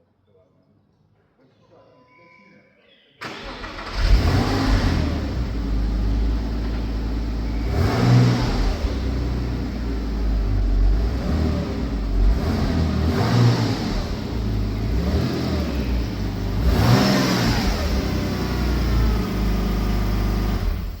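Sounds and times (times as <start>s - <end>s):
car engine revving and idling: 3.3s - 21.0s.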